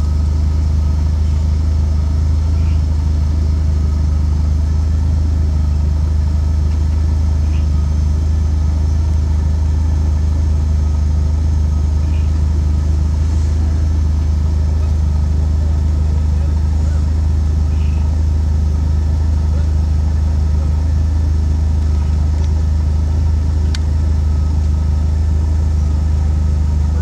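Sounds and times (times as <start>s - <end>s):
engine rumbling at low revs: 0.0s - 27.0s.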